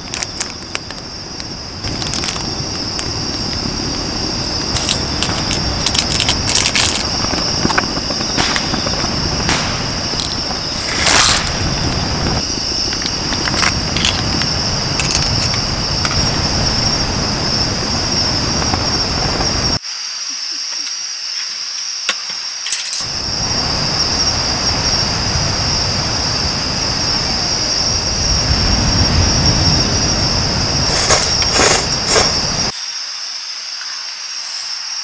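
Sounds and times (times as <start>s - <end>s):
low noisy rumble: 0.0s - 19.8s, 23.0s - 32.7s
crickets chirping drone: 0.0s - 35.0s.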